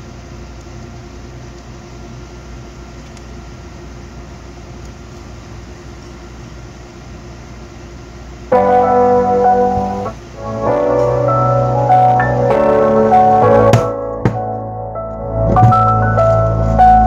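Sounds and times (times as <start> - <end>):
amplifier hum and hiss: 0.0 - 17.0
cooling fan running: 0.0 - 17.0.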